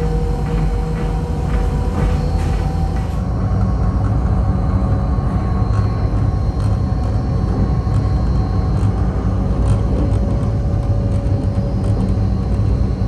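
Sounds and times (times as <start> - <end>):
faint steady whine: 0.0 - 13.0
railcar rumble: 0.0 - 13.0.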